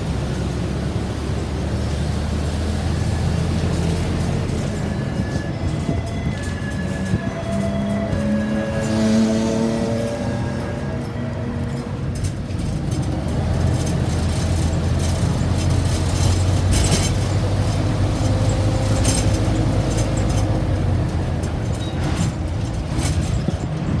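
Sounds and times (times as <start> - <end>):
passing vehicles hissing: 0.0 - 24.0
vehicle engines rumbling: 0.0 - 24.0.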